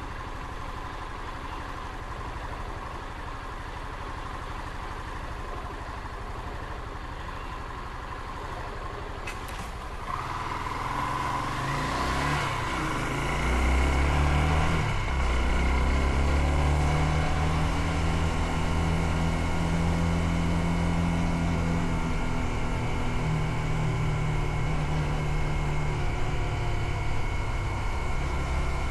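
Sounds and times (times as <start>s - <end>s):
motorcycle engine: 0.0s - 28.9s.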